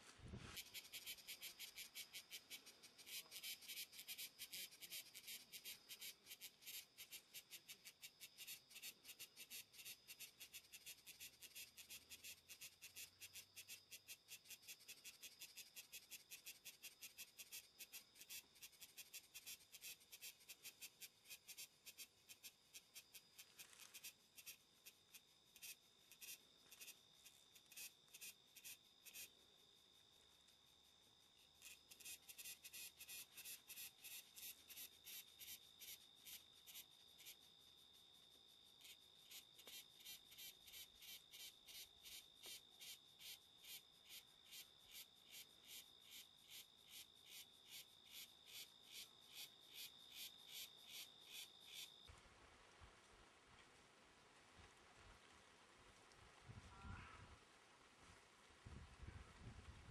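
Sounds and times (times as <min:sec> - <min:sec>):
insects chirping: 0:00.5 - 0:52.1.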